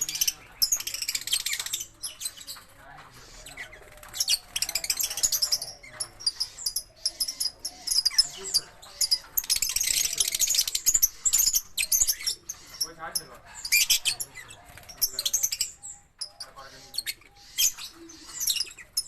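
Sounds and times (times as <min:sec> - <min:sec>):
lovebirds chattering: 0:00.0 - 0:19.0.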